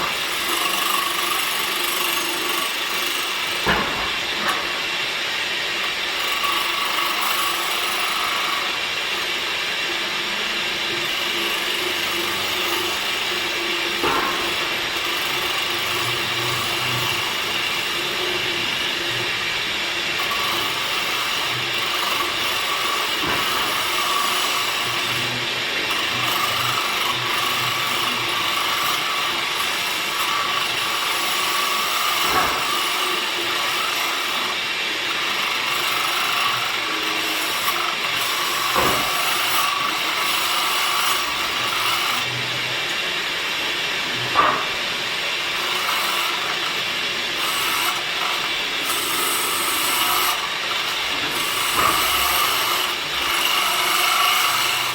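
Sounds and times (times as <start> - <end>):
woodworking machine running: 0.0 - 54.9.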